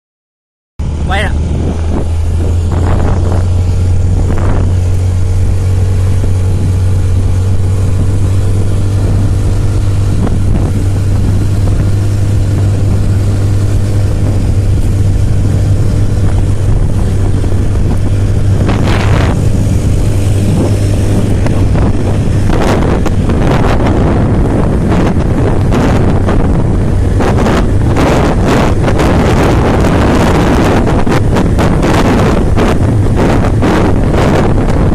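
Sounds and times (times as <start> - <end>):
motorbike engine running: 0.8 - 34.9
wind rumble on microphone: 0.8 - 34.9.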